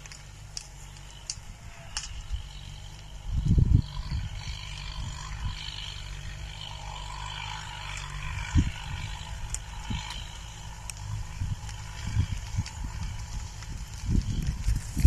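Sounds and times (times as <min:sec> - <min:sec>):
low steady rumble: 0:00.0 - 0:15.0
wind buffeting microphone: 0:01.0 - 0:15.0.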